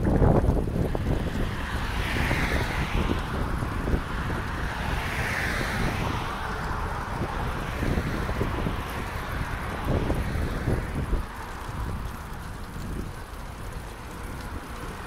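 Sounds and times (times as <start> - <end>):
road traffic passing: 0.0 - 15.0
wind rumble on microphone: 0.0 - 15.0.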